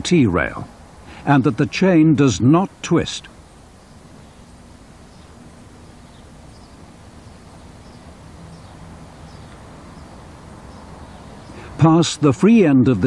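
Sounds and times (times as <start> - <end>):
faint tape hiss: 0.0 - 13.0.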